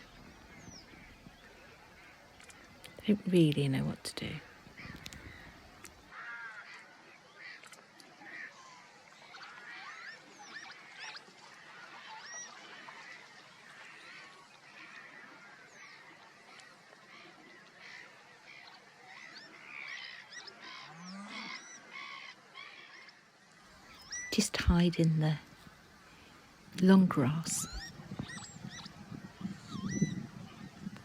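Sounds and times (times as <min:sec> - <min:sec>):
birds calling: 0:00.0 - 0:06.7, 0:09.3 - 0:31.0.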